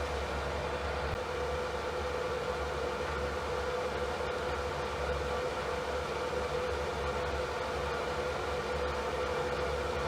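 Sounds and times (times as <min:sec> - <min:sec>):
electric fan running: 0:00.0 - 0:10.0.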